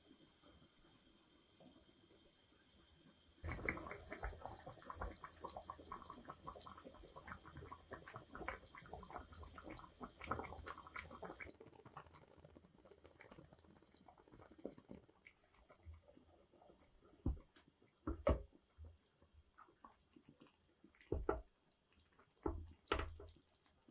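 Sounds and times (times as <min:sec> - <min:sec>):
tomato sauce bubbling: 0:03.4 - 0:23.9.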